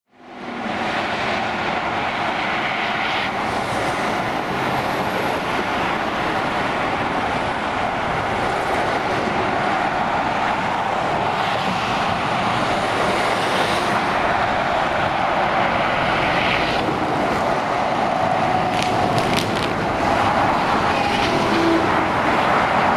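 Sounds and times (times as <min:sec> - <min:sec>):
lorries rushing along a motorway: 0:00.1 - 0:22.9.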